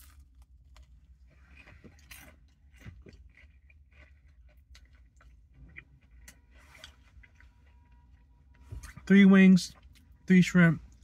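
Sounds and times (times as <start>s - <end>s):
chewing and crunching: 0.0s - 9.0s, 9.6s - 10.3s.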